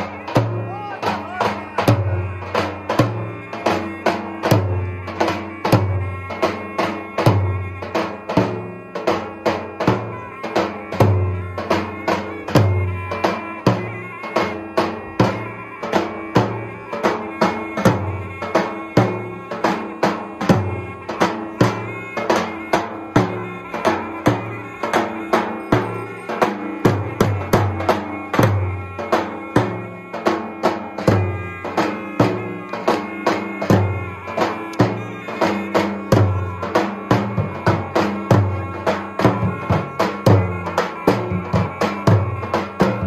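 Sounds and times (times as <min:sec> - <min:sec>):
deep drum beats: 0:00.0 - 0:43.0.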